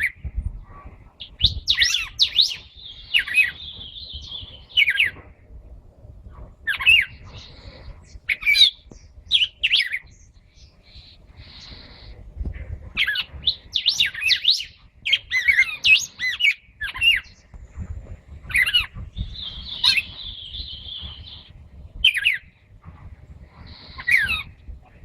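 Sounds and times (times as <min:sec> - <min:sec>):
songbirds singing and chirping: 0:00.0 - 0:25.0.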